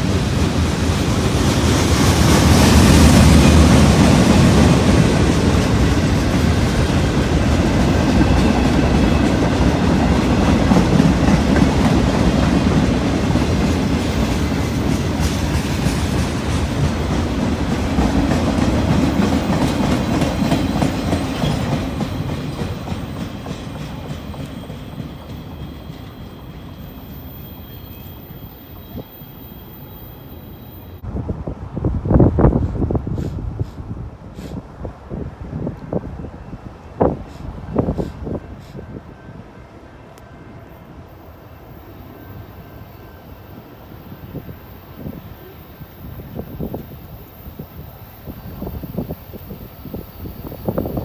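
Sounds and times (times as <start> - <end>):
freight train rolling past: 0.0 - 51.0.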